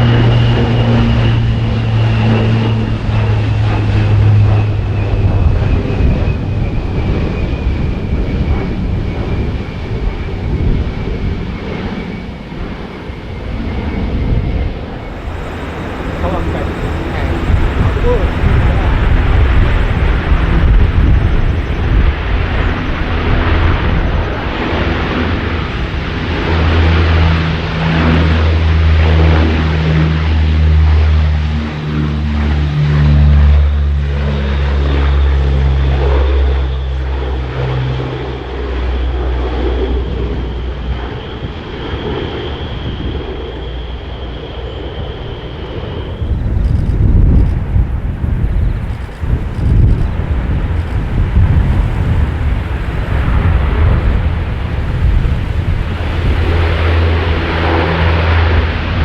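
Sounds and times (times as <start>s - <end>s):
deep propeller hum: 0.0s - 59.0s
high turbine whine: 0.0s - 59.0s.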